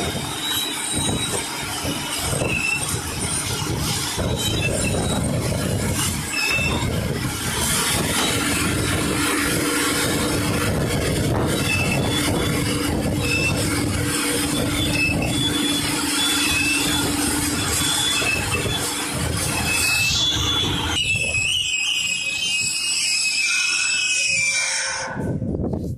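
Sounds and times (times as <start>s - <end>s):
concrete mixer engine running: 0.0s - 21.0s
high-pitched machine squeaks: 0.0s - 25.4s.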